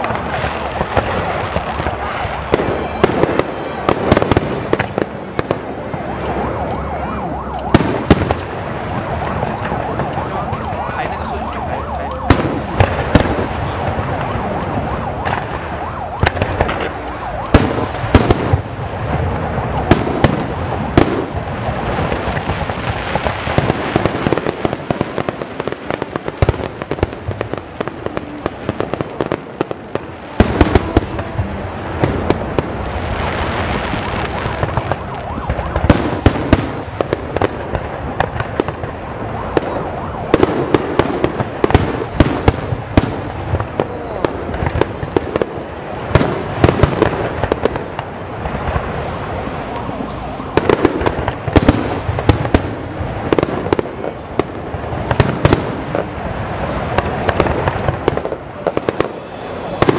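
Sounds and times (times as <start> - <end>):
fireworks crackling: 0.0 - 59.9.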